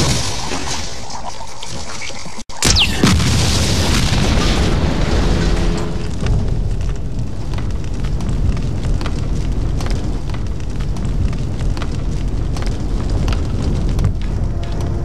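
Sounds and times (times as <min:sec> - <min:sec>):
fire crackling and popping: 0:02.6 - 0:15.0
large fire rumbling: 0:03.0 - 0:15.0.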